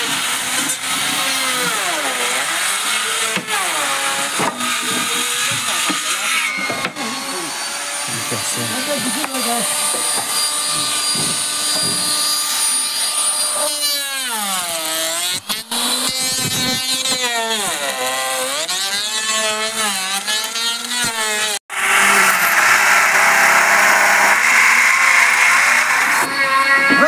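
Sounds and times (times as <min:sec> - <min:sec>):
circular saw cutting plank: 0:00.0 - 0:27.0
power tool motor whining: 0:00.0 - 0:27.0
router cutting wood: 0:00.0 - 0:27.0.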